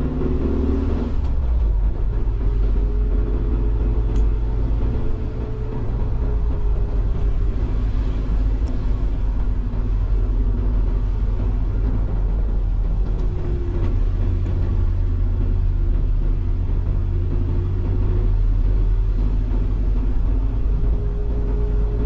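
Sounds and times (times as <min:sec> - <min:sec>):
car engine and road rumble: 0:00.0 - 0:22.0
faint engine hum: 0:00.0 - 0:22.0.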